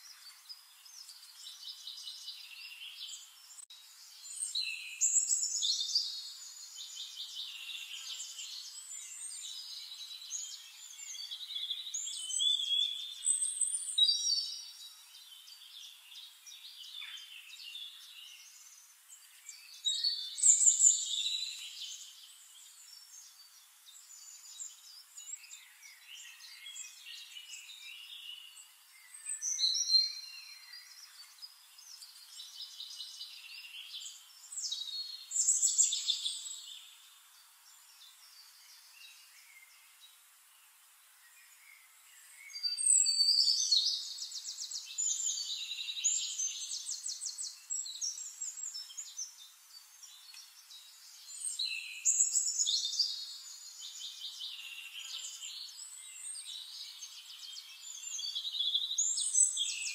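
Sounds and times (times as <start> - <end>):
rapid trilled birdsong: 0.0 - 59.9
songbirds singing: 0.0 - 59.9.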